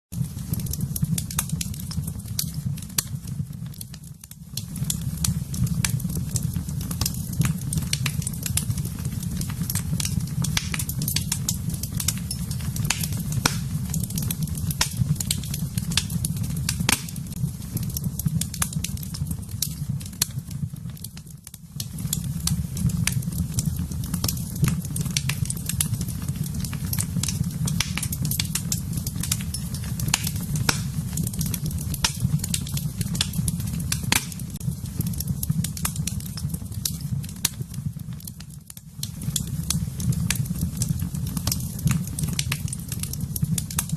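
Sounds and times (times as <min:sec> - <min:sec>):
fire crackling and popping: 0:00.1 - 0:43.9
low rumble of flames: 0:00.2 - 0:43.9.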